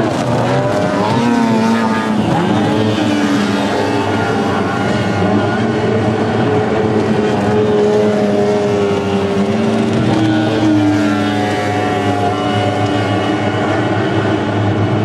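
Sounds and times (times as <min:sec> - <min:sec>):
racing outboard motors at high revs: 0:00.0 - 0:15.0.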